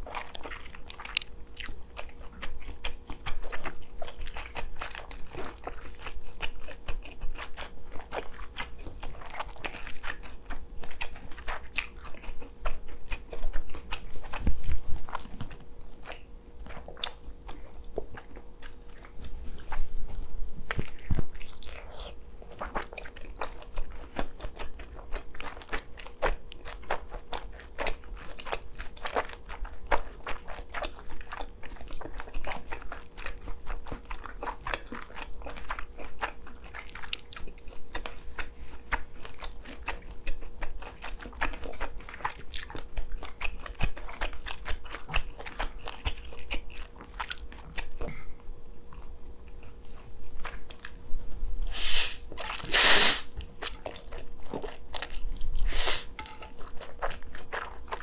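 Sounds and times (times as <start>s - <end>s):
wet chewing with mouth clicks: 0.0s - 58.0s.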